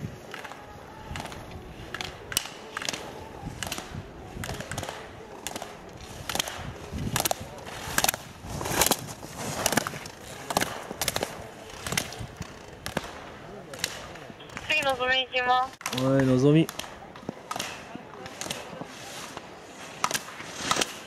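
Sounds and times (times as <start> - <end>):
skis scraping on snow: 0.0 - 16.6, 17.2 - 21.0.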